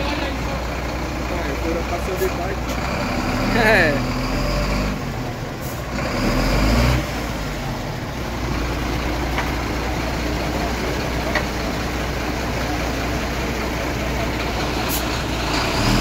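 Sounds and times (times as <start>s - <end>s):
motor vehicle engine running: 0.0s - 16.0s.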